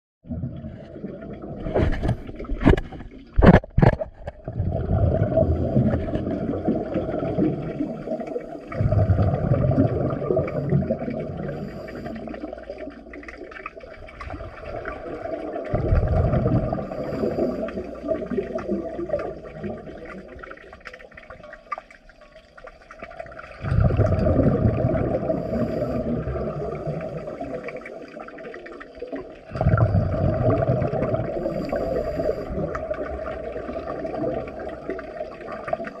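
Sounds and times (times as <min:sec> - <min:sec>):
underwater exhaled air bubbling: 0:00.2 - 0:36.0.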